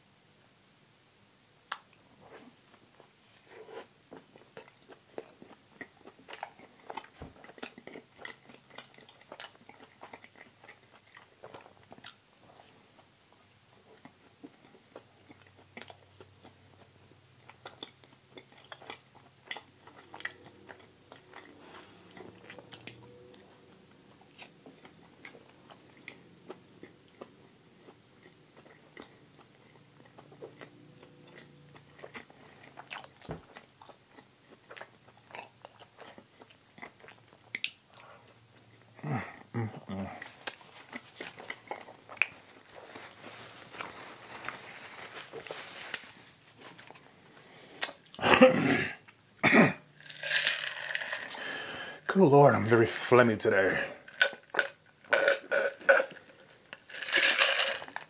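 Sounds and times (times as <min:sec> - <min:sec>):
person chewing food: 0:01.7 - 0:48.2, 0:53.8 - 0:58.0.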